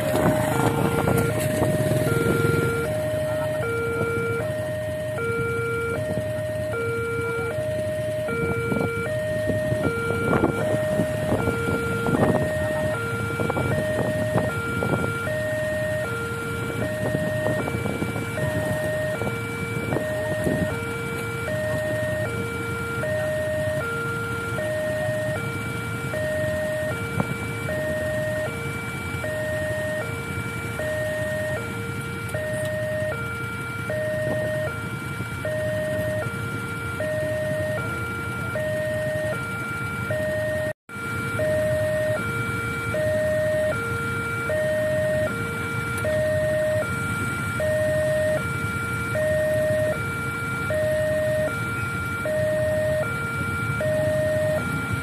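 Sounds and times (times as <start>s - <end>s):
two-tone level-crossing alarm: 0.0s - 55.0s.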